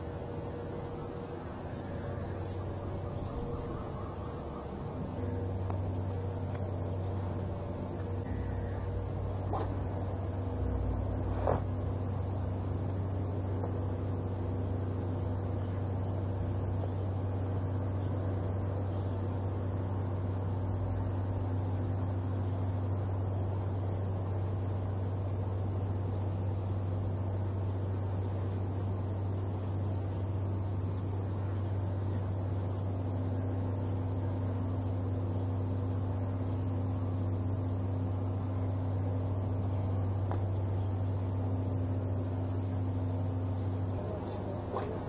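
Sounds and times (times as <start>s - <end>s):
low mechanical hum: 0.0s - 45.0s.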